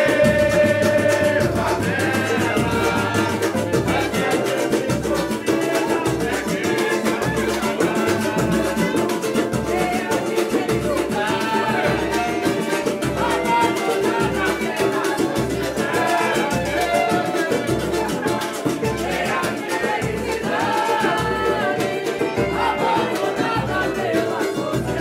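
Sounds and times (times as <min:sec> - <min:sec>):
group singing together: 0:00.0 - 0:25.0
hand drum percussion: 0:00.0 - 0:25.0.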